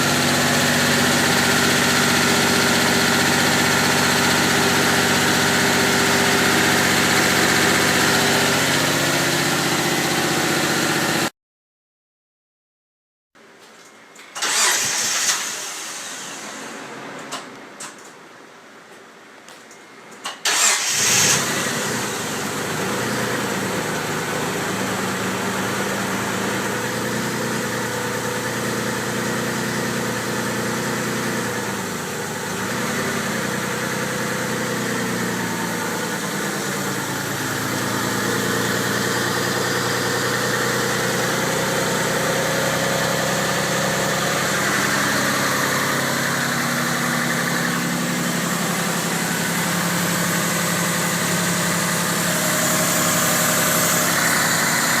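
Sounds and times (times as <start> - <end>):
car engine starting and idling: 0.0 - 11.3, 14.2 - 18.2, 20.2 - 55.0.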